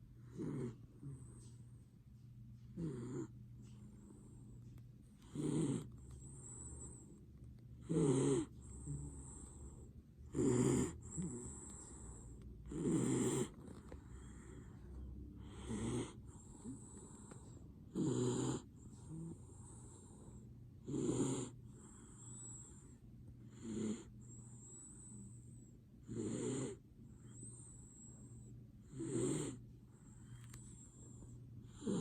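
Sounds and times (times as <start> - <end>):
dog snoring: 0.0 - 1.6, 2.6 - 4.6, 5.2 - 32.0.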